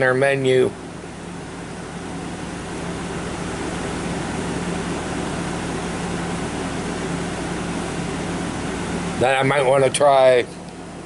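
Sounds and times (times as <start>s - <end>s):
air conditioner fan rushing: 0.0s - 11.0s.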